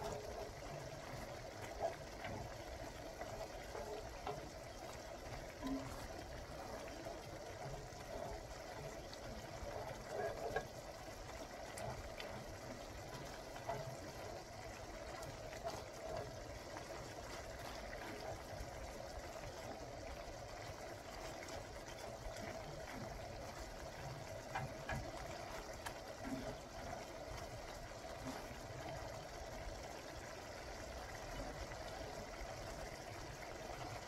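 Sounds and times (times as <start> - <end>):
gravy bubbling: 0.0 - 34.0.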